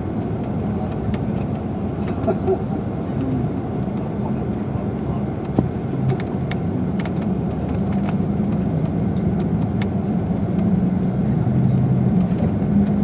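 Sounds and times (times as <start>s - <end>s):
coach engine and road noise: 0.0s - 13.0s.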